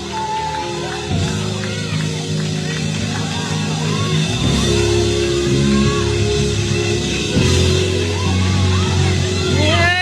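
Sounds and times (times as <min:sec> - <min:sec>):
gospel band playing: 0:00.0 - 0:10.0.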